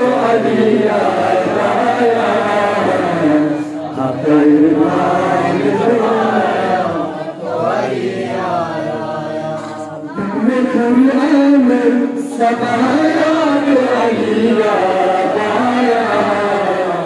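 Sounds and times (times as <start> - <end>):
man singing into a microphone: 0.0 - 7.4, 9.5 - 17.0.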